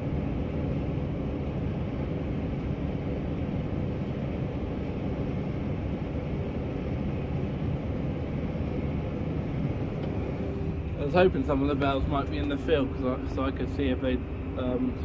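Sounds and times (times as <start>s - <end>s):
tractor engine and machinery drone: 0.0s - 15.0s.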